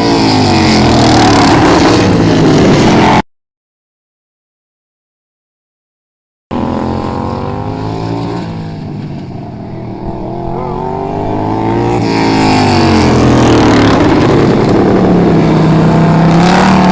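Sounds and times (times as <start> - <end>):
racing lawnmower engines: 0.0 - 3.2, 6.5 - 16.9.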